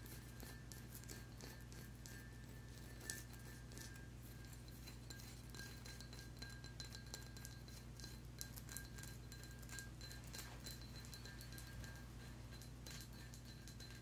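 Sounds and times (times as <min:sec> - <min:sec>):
low steady hum: 0:00.0 - 0:14.0
faint high ringing tone: 0:00.3 - 0:14.0.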